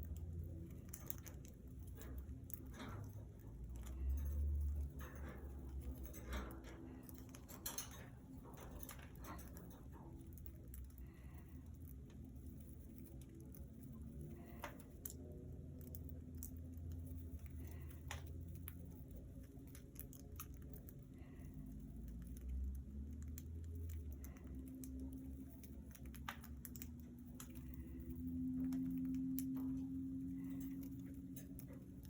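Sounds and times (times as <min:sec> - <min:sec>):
budgies clicking and tapping: 0:00.0 - 0:32.0
steady low hum: 0:00.0 - 0:32.0.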